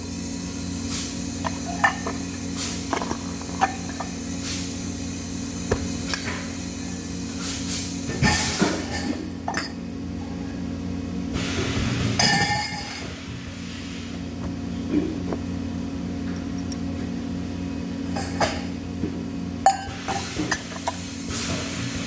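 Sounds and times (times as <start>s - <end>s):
low electrical hum: 0.0s - 21.2s.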